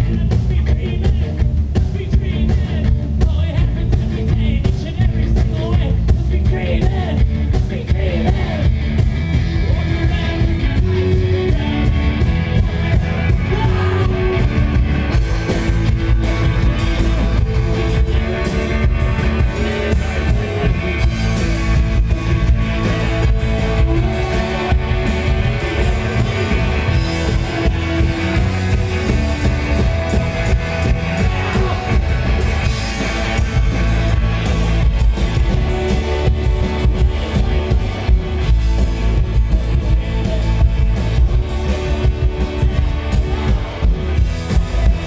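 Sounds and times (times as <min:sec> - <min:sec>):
man singing: 0:00.0 - 0:08.8, 0:09.4 - 0:38.1
bass: 0:00.0 - 0:45.0
drums: 0:00.0 - 0:45.0
electric guitars: 0:00.0 - 0:45.0.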